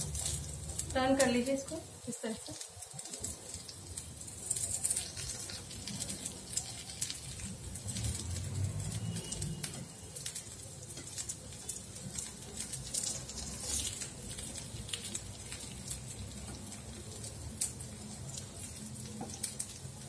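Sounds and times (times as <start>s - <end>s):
food crackling in hot oil: 0.0s - 20.0s.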